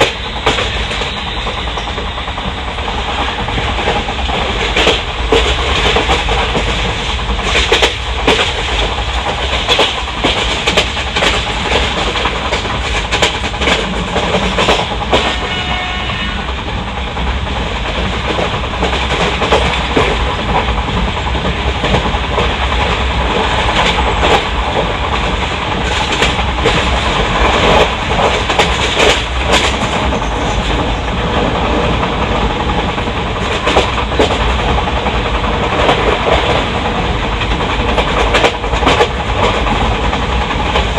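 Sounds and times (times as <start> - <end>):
clickety-clack of rail joints: 0.0 - 40.9
train wheels rumbling on track: 0.0 - 40.9.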